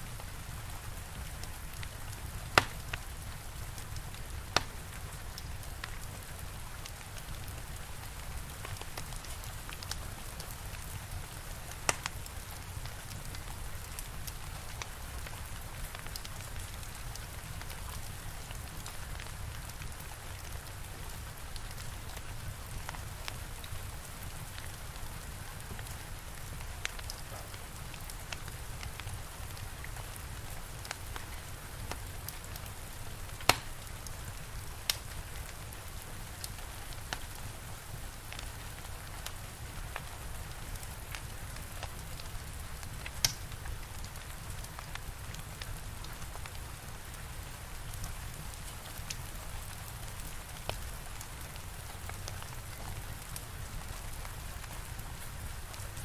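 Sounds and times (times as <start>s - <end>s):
steady rain falling: 0.0s - 56.0s
wood fire crackling: 0.1s - 56.0s.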